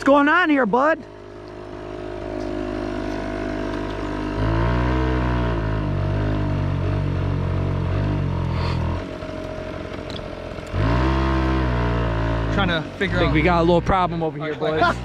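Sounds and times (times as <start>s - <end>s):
moped engine revving: 0.0s - 15.0s.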